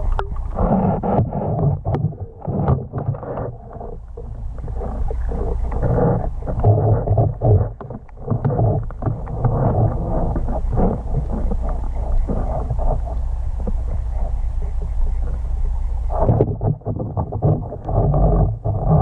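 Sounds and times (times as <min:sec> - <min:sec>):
dull thumps and sloshing: 0:00.0 - 0:15.4, 0:16.1 - 0:19.0
muffled underwater water rumble: 0:00.0 - 0:19.0.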